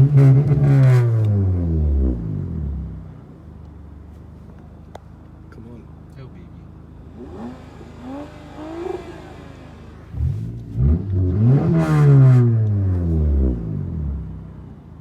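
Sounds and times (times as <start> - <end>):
car engine revving: 0.0 - 3.5, 5.8 - 15.0.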